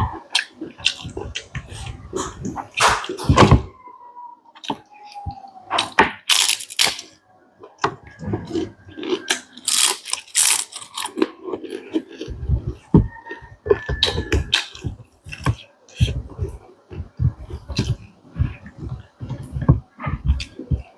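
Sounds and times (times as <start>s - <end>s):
chewing and crunching food: 0.0s - 3.8s, 4.6s - 20.9s.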